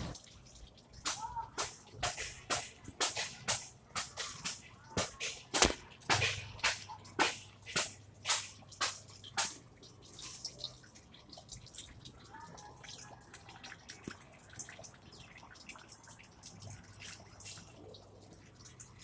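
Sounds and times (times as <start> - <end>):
water dripping: 0.0 - 19.0.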